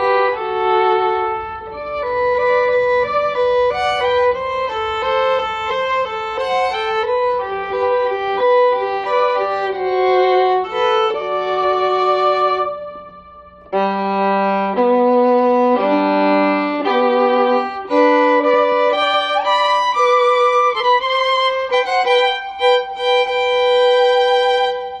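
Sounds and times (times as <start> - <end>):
background music with held notes: 0.0 - 25.0.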